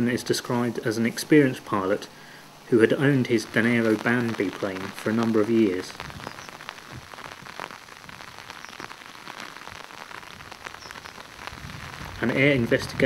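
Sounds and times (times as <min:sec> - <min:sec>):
patter of raindrops: 0:00.0 - 0:13.0
steady rain: 0:00.0 - 0:13.0.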